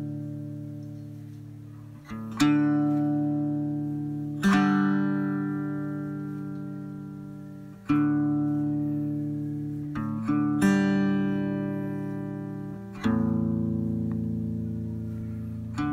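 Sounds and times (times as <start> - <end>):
slow strummed guitar chords: 0.0 - 15.9.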